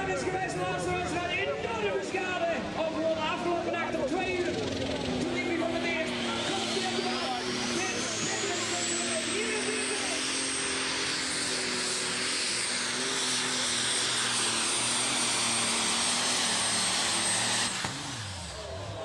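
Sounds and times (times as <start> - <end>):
diesel engine roaring: 0.0 - 19.0.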